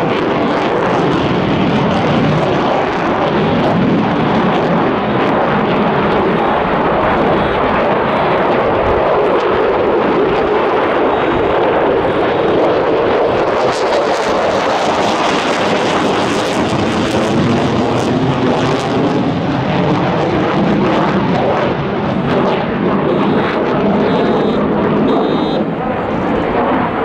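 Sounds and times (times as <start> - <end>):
fighter jet roar: 0.0 - 27.0.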